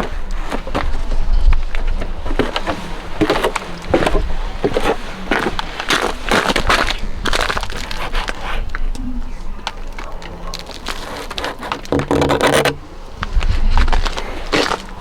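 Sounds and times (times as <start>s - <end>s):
footsteps crunching through snow: 0.0s - 8.8s, 9.9s - 12.0s, 12.9s - 15.0s.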